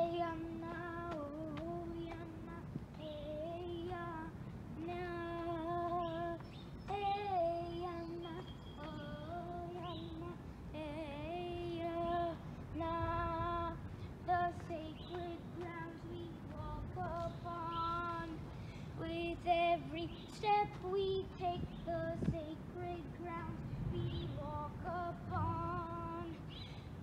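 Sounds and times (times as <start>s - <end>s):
girl singing: 0.0s - 26.6s.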